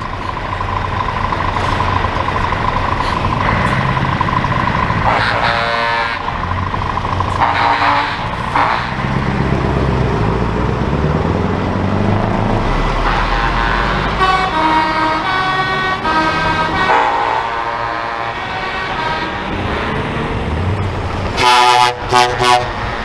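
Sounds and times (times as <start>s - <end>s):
truck air horns honking: 0.0s - 10.3s, 12.7s - 20.6s, 21.3s - 23.0s
truck engines droning: 0.0s - 23.0s.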